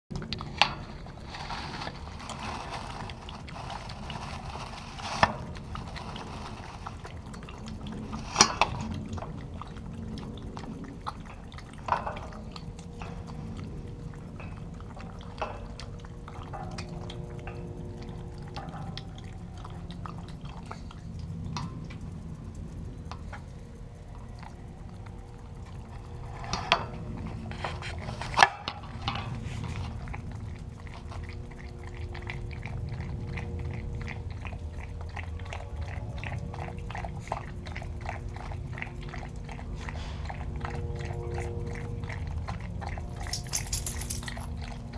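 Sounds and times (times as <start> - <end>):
dog lapping water from bowl: 0.1 - 44.9.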